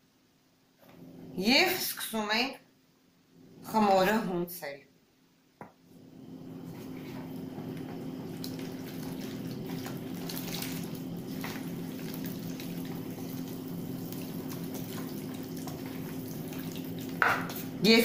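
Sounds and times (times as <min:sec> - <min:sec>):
steady low hum: 0:03.0 - 0:18.0.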